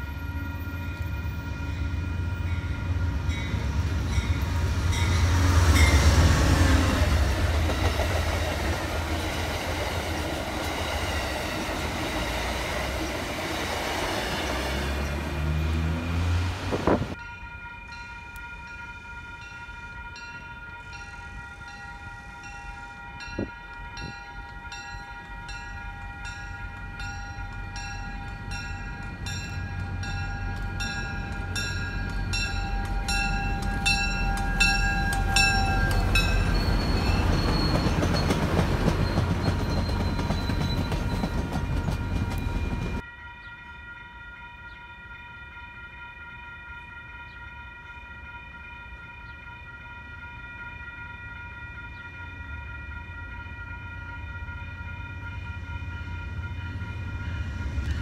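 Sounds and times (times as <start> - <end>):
train rumble passing: 0.0 - 43.0, 52.0 - 58.0
railroad crossing bell ringing: 0.0 - 58.0.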